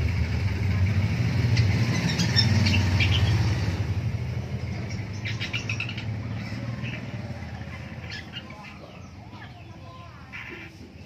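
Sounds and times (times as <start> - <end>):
passing vehicle rumble: 0.0 - 11.0
bird scratchy chirps: 1.4 - 11.0.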